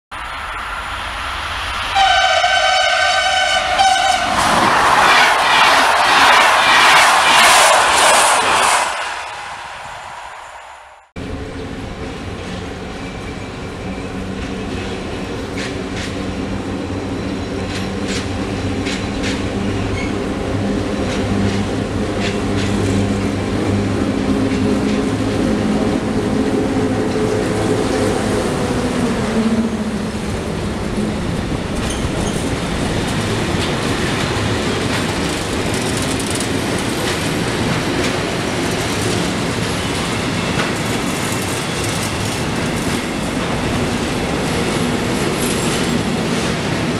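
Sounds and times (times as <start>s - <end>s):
electric locomotive humming past: 0.1s - 46.9s.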